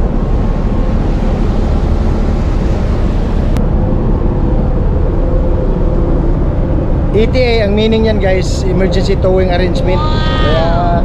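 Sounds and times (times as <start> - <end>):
churning propeller wash: 0.0 - 11.0
ship engine rumble: 0.0 - 11.0
wind on microphone: 0.0 - 11.0.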